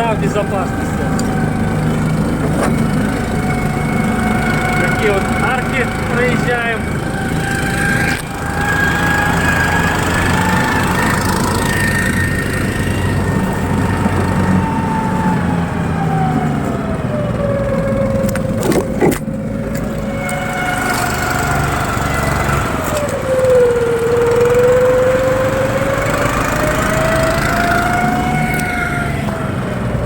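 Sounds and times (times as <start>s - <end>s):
motorized sled engine whining: 0.0s - 30.0s.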